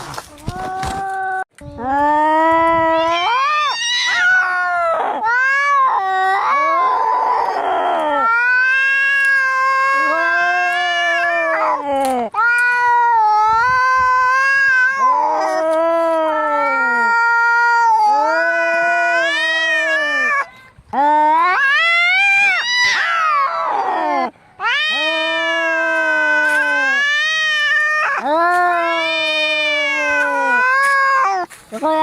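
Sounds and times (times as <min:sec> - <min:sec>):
cats yowling: 0:02.7 - 0:20.5, 0:21.1 - 0:31.6.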